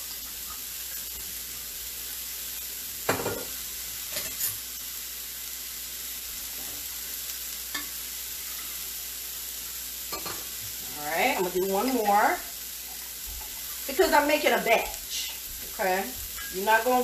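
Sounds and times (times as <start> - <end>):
hash browns sizzling in a pan: 0.0 - 17.0.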